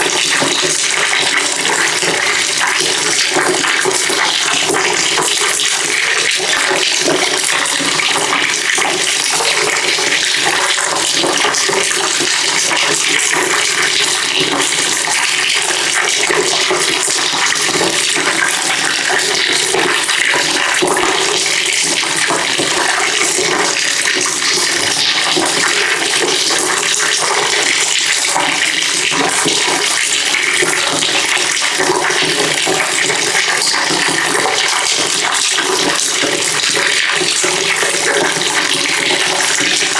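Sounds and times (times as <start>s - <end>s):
water pouring into a bucket: 0.0s - 39.9s.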